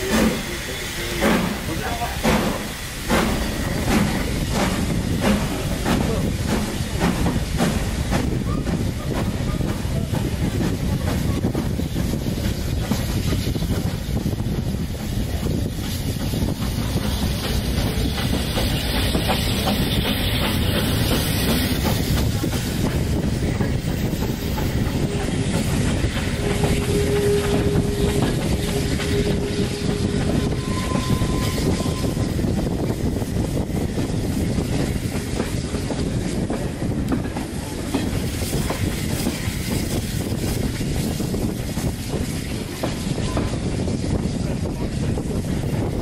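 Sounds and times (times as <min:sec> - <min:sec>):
railway carriage rumbling: 0:00.0 - 0:46.0.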